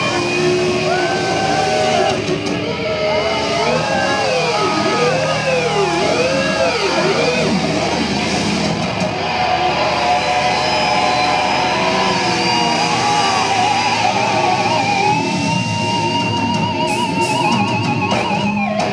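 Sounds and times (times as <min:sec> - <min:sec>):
distorted electric guitars: 0:00.0 - 0:18.9.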